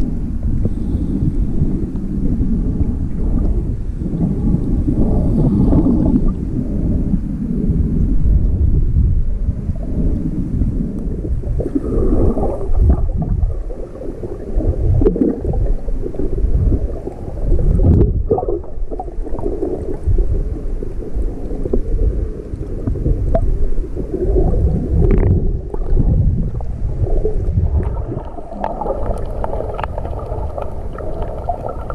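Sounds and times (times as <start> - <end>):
muffled underwater water rumble: 0.0 - 31.9.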